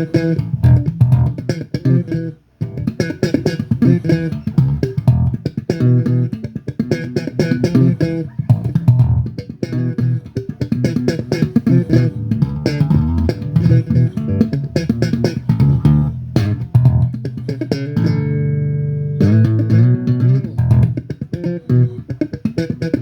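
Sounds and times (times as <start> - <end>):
bass guitar plucked notes: 0.0 - 23.0.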